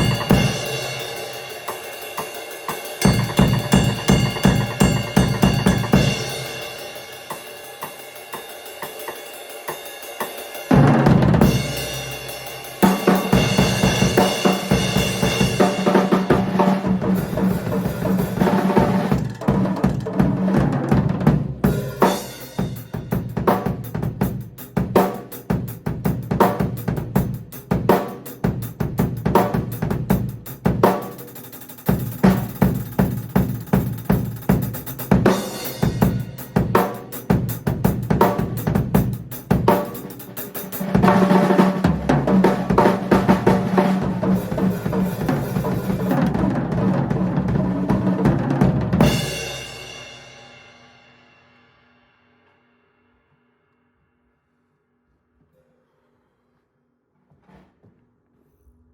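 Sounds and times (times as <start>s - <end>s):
drum kit played fast: 0.0s - 50.9s.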